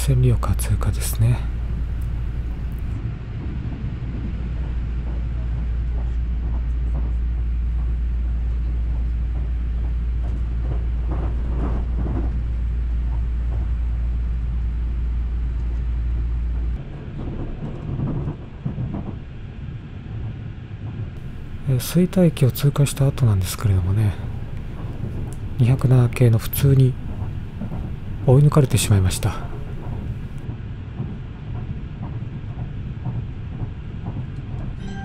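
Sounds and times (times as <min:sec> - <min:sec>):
train car rattle: 0:00.0 - 0:14.9, 0:20.9 - 0:35.0
train rumbling at speed: 0:00.0 - 0:35.0.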